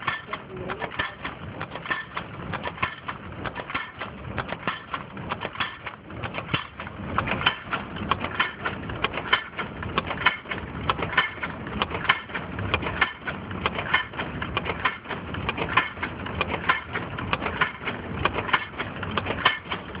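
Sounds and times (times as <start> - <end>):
rapid metallic clicking clatter: 0.0 - 20.0
steady mechanical hum: 0.0 - 20.0.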